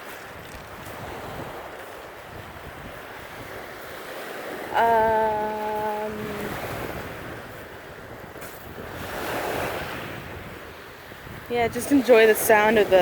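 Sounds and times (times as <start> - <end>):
waves washing against rocks: 0.0 - 13.0
wind on microphone: 0.0 - 13.0.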